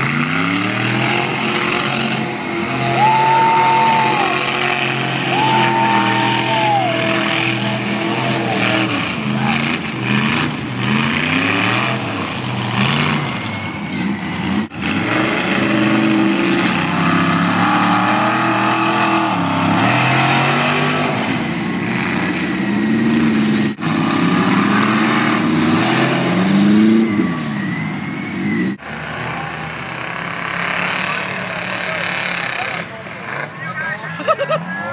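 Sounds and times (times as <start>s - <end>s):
truck engines revving: 0.0s - 34.9s.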